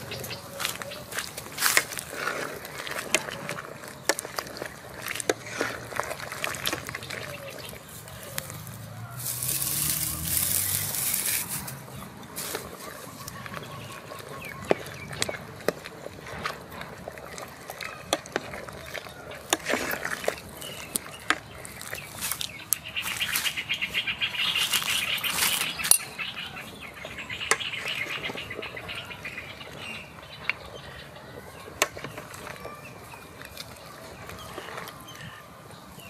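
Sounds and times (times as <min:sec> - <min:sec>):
birds trilling: 0:00.0 - 0:15.8, 0:16.8 - 0:36.0.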